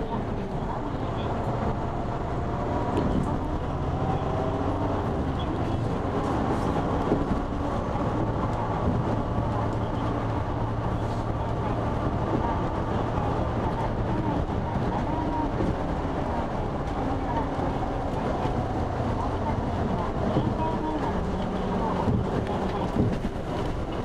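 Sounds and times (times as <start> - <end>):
bus engine humming: 0.0 - 24.0.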